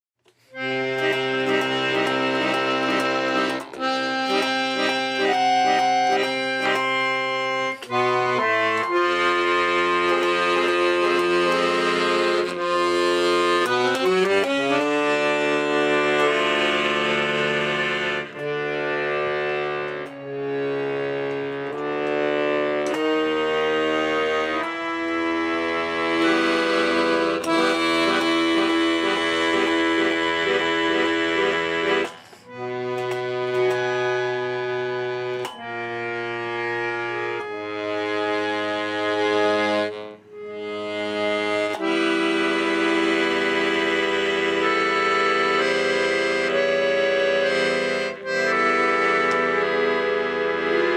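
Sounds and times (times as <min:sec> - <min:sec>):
accordion playing slow chords: 0:00.2 - 0:50.9.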